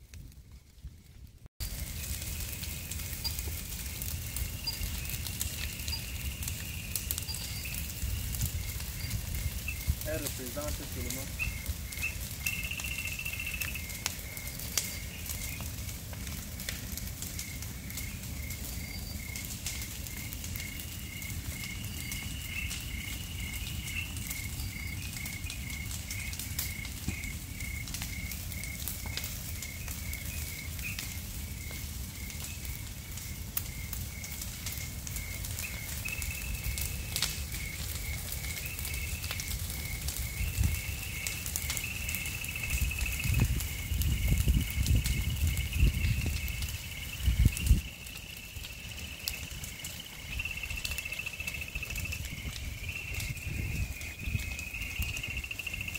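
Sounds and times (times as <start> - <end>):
burning logs crackling and popping: 0.0 - 55.9.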